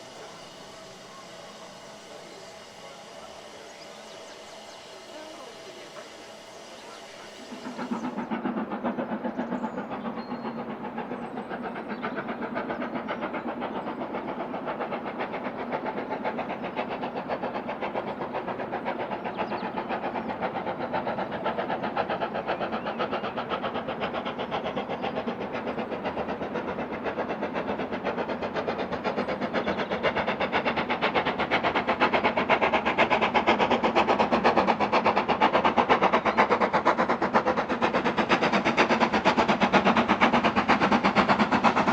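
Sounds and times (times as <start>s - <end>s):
steam locomotive exhaust beats: 0.0s - 41.9s.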